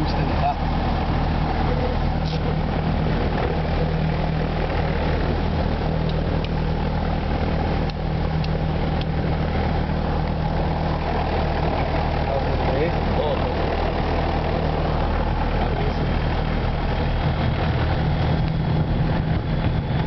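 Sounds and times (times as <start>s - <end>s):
light aircraft engine droning: 0.0s - 20.0s.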